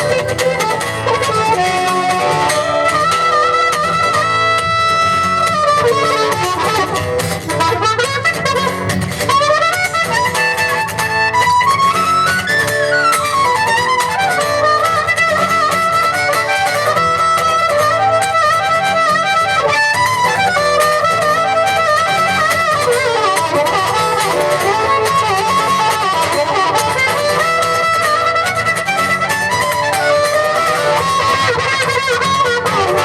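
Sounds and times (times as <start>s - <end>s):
fiddle melody: 0.0s - 33.0s
live band playing: 0.0s - 33.0s.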